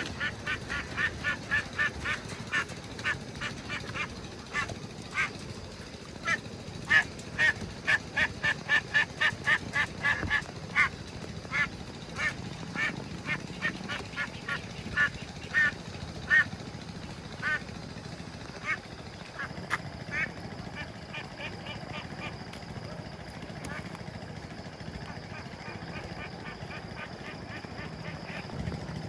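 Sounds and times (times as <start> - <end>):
ducks quacking: 0.0 - 22.4, 23.6 - 23.9, 25.0 - 28.6
low steady rumble: 0.0 - 29.0.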